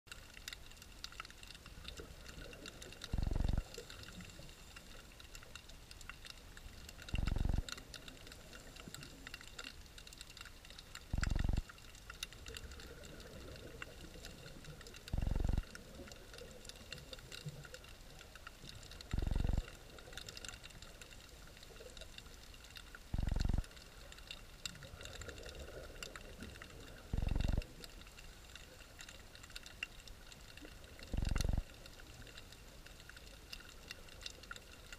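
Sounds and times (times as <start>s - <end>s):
crackle of tiny underwater clicks: 0.1s - 34.9s.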